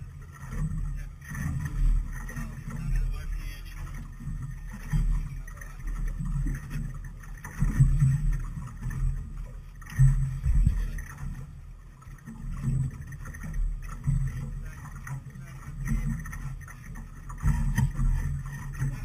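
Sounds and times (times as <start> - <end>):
water slapping against hull: 0.0 - 19.0.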